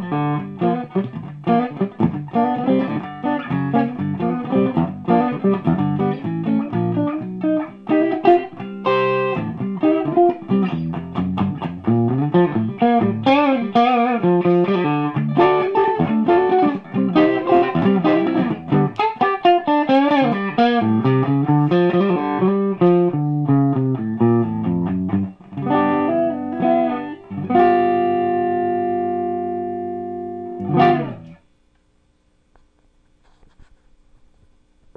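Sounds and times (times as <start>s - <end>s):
clean electric guitar: 0.0s - 31.5s.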